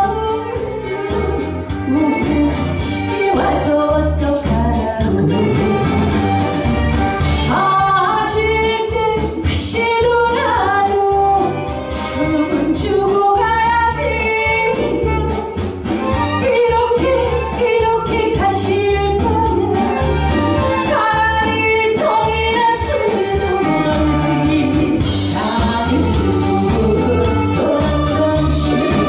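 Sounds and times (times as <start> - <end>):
woman singing into a microphone: 0.0 - 6.0, 7.4 - 15.6, 16.3 - 29.0
instrumental music with bass beat: 0.0 - 29.0.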